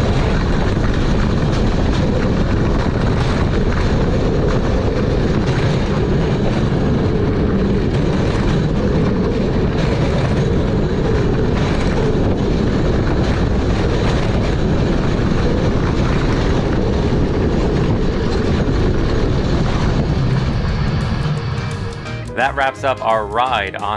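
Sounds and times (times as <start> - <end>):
wind rushing over microphone: 0.0 - 21.9
roller coaster track noise: 0.0 - 23.9.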